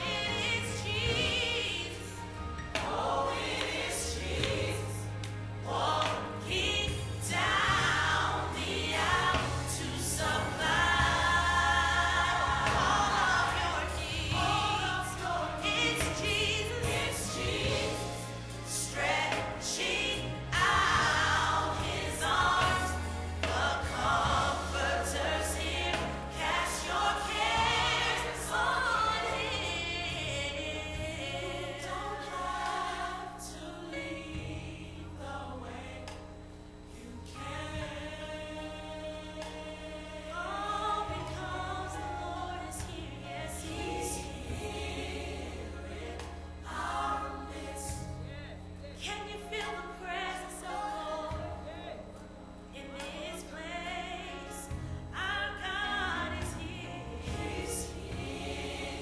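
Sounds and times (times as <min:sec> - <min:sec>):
choir singing with vibrato: 0:00.0 - 0:59.0.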